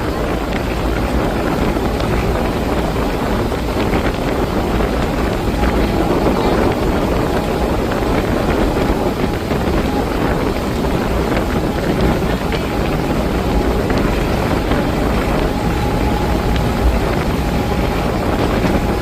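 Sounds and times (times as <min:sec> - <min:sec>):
low rumble: 0:00.0 - 0:19.0
water rushing: 0:00.0 - 0:19.0
wind buffeting microphone: 0:00.0 - 0:19.0.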